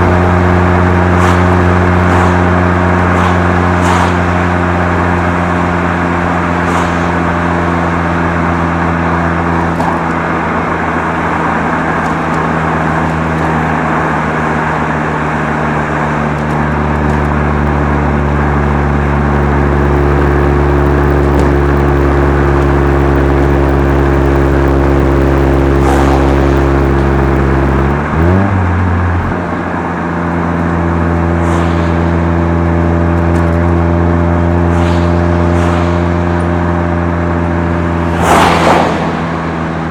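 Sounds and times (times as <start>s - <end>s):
rotary engine exhaust note: 0.0s - 39.9s.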